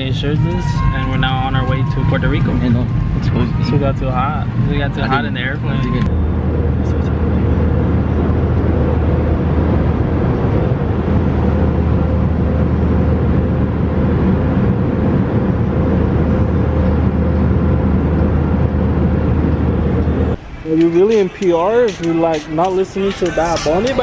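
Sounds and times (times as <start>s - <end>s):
airliner cabin noise: 0.0s - 24.0s.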